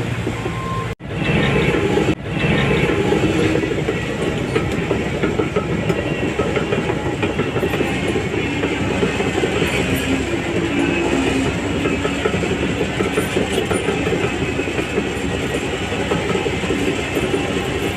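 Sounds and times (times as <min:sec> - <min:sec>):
steel tracks clanking: 0:00.0 - 0:17.9.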